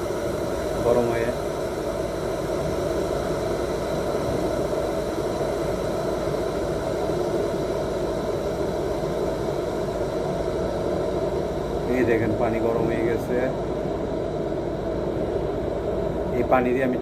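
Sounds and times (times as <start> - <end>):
electric kettle heating water: 0.0 - 17.0.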